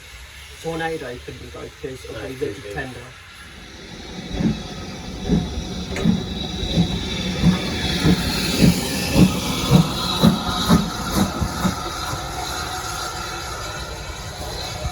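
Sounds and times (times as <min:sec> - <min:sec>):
steady steam hiss: 0:00.0 - 0:14.9
steam locomotive exhaust beats: 0:00.0 - 0:14.9.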